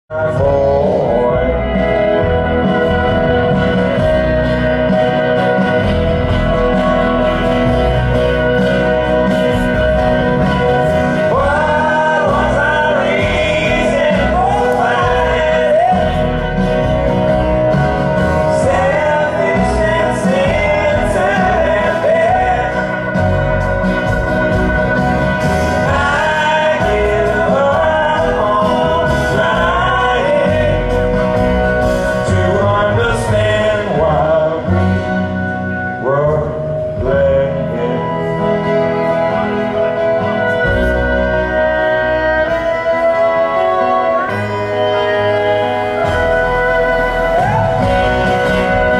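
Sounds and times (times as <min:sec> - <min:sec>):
guitar: 0:00.0 - 0:48.9
person singing: 0:00.0 - 0:48.9
live band playing: 0:00.1 - 0:48.9.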